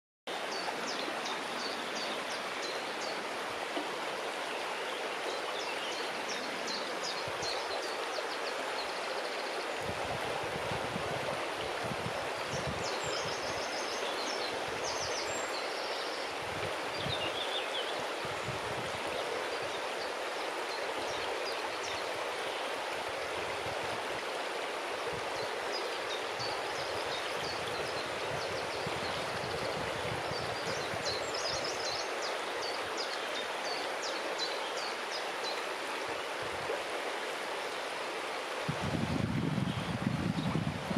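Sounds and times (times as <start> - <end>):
river water rushing around stones: 0.3 - 40.9.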